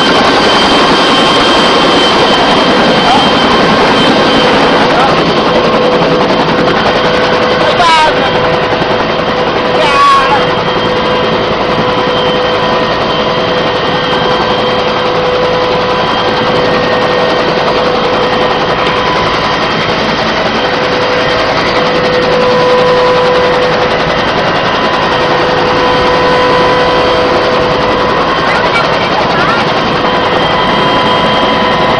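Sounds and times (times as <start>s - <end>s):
helicopter rotor and engine: 0.0s - 31.9s
whining tones: 0.0s - 31.9s.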